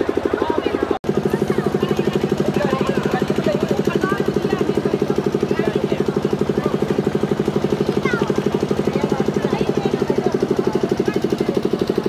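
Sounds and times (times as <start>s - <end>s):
engine idling with fast throb: 0.0s - 12.0s.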